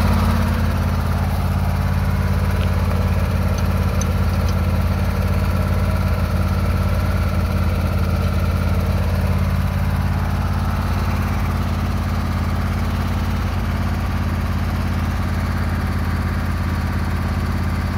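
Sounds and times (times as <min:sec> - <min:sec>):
lawn tractor engine idling: 0:00.0 - 0:17.9.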